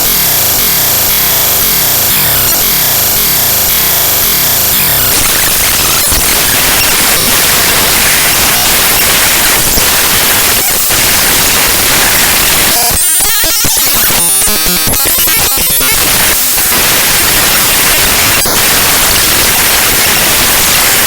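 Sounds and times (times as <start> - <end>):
choppy buzzing pattern: 0.0 - 21.0
dense static-like noise: 0.0 - 21.0.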